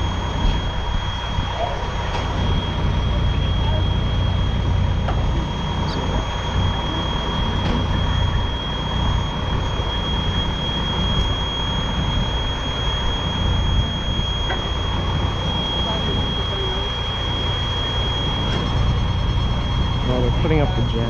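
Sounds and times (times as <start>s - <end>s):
fire alarm high tone: 0.0s - 21.0s
low rumble: 0.0s - 21.0s.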